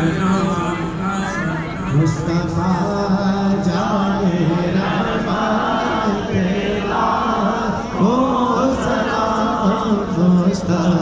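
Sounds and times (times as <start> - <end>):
men singing devotional chant: 0.0 - 11.0.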